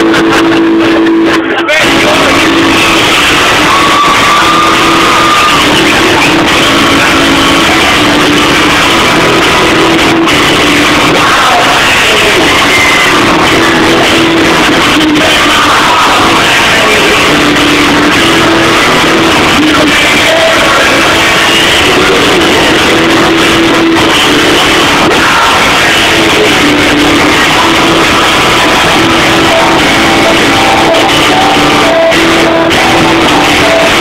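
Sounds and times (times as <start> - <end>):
men singing into microphones: 0.0 - 34.0.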